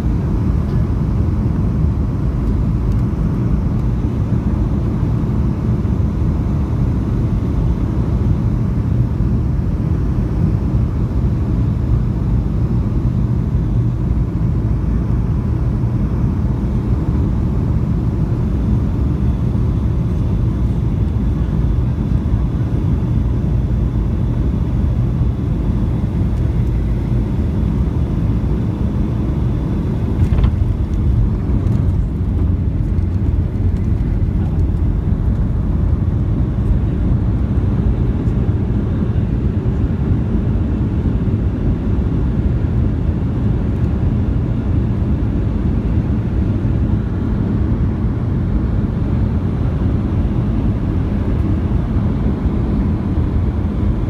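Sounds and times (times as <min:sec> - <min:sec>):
jet engine and airflow roar: 0:00.0 - 0:54.0.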